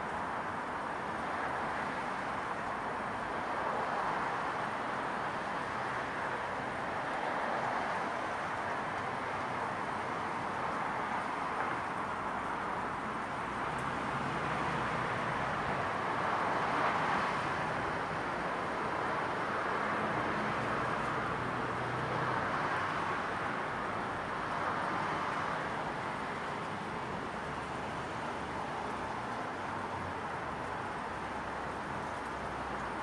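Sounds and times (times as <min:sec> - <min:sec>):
traffic hum: 0:05.4 - 0:33.0.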